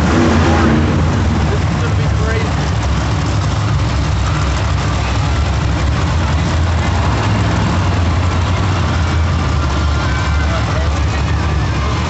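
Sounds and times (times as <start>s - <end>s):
arena noise: 0.0s - 12.0s
monster truck engine running: 0.0s - 12.0s.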